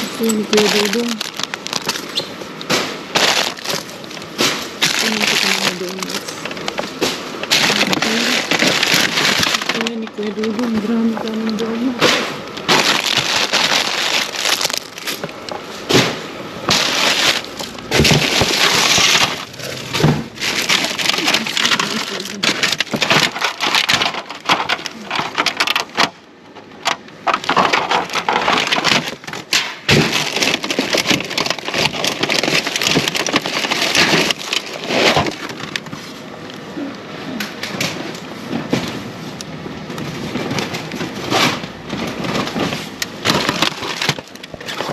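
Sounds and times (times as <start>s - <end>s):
packaging rustling and crinkling: 0.0s - 44.9s.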